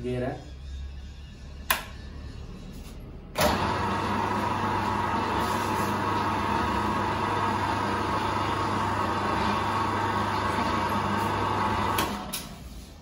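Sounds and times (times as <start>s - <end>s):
mixer motor humming and whining: 0.6s - 12.6s.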